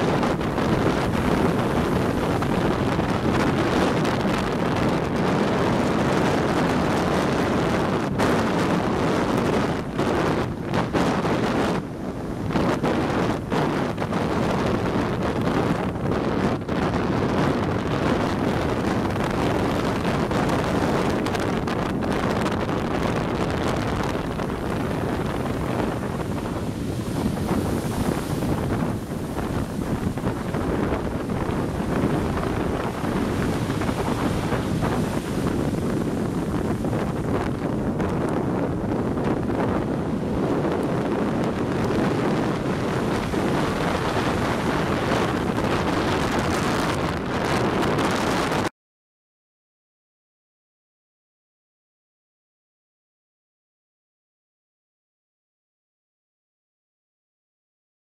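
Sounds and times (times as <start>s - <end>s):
surf churning in shallows: 0.0s - 48.7s
wind buffeting microphone: 0.0s - 48.7s.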